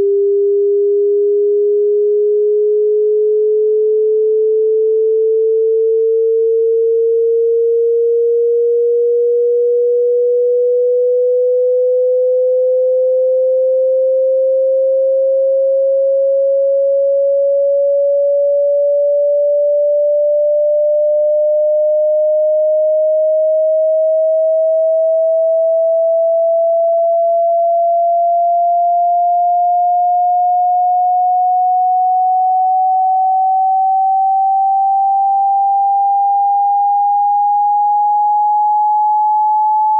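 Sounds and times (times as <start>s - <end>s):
rising sine-wave test tone: 0.0s - 39.9s.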